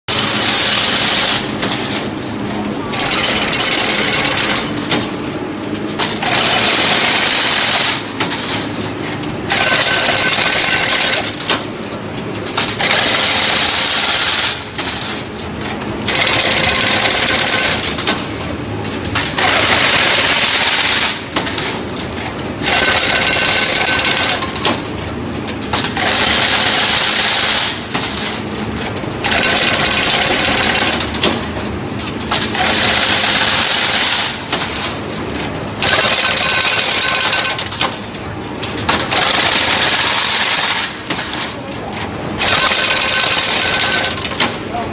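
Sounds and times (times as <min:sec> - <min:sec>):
machine running: 0:00.1 - 0:44.9.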